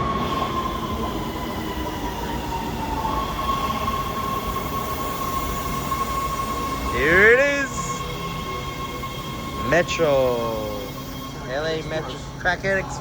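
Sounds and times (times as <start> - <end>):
low rumble of train cars: 0.0 - 13.0
subway train high whine: 0.0 - 13.0.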